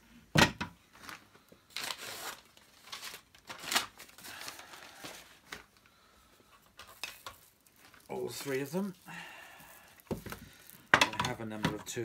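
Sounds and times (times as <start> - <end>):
packaging rustling and crinkling: 0.9 - 12.0.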